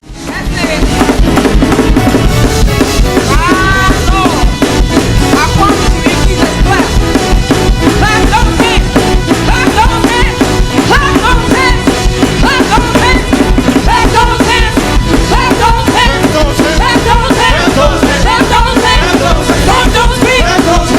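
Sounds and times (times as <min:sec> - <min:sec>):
drum kit quick beat: 0:00.0 - 0:20.9
fast church praise music: 0:00.0 - 0:20.9.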